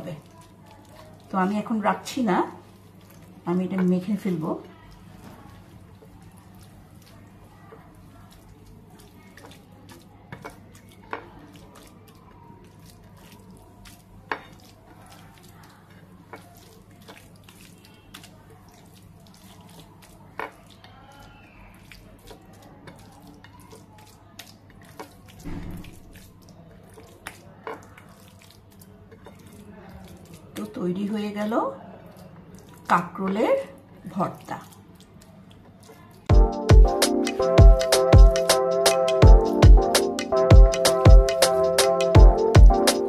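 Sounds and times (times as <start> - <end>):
wet squishing of hand kneading: 0.0 - 43.0.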